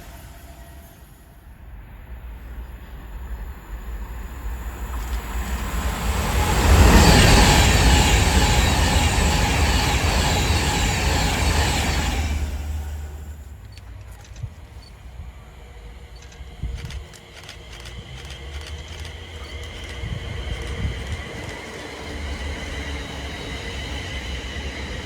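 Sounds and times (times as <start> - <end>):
train passing: 0.0 - 25.0.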